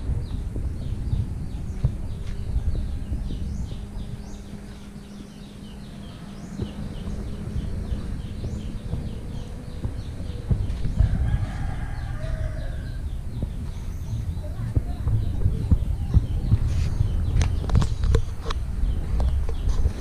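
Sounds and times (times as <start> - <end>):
faint steady hum: 0.0 - 20.0
low uneven rumble: 0.0 - 20.0
small birds chirping: 0.0 - 20.0.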